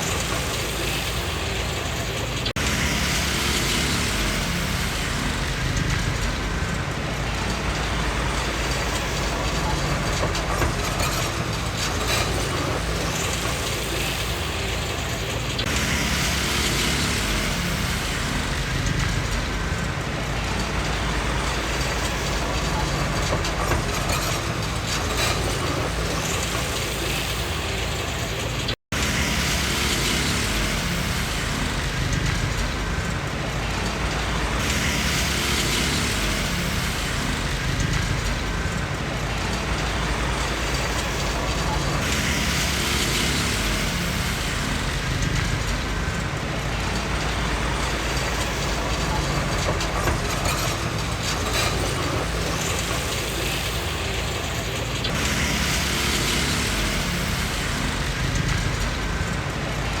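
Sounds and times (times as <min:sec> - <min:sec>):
diesel engine running: 0:00.0 - 1:00.0
steel tracks clanking: 0:00.0 - 1:00.0.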